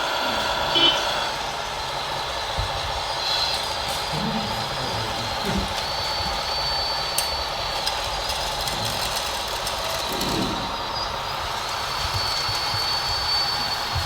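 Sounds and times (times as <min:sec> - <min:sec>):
small electric motor whine: 0:00.0 - 0:14.0.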